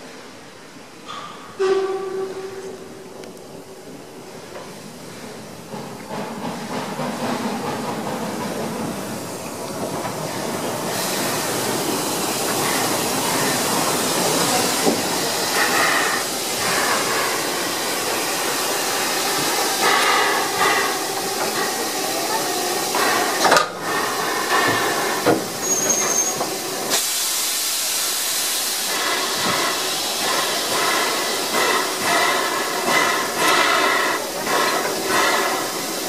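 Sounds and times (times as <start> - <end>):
steam hissing from locomotive: 3.4 - 36.0.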